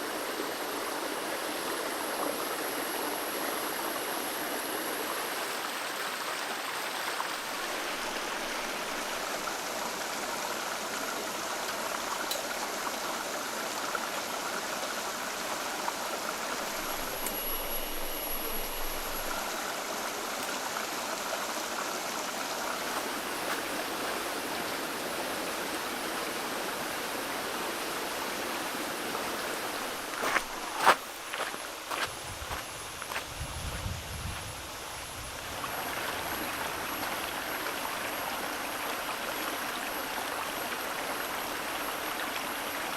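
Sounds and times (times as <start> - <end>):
faint high whine: 0.0 - 10.4, 16.3 - 42.9
stream water flowing: 0.0 - 33.3, 34.7 - 42.9.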